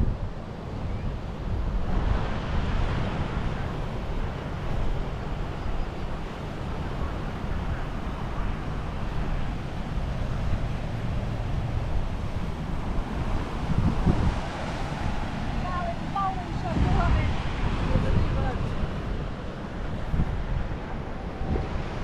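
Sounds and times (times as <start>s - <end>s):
surf washing on shore: 0.0s - 22.0s
wind buffeting microphone: 0.0s - 22.0s.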